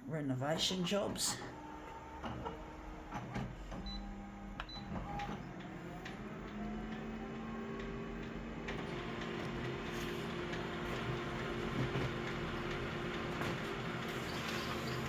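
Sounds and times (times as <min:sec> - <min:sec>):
small machine whirring hum: 0:01.3 - 0:15.0.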